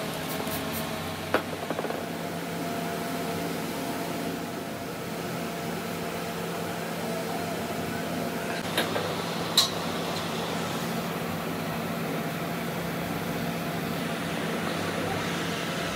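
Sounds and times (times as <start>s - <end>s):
mechanical hum: 0.0s - 15.9s.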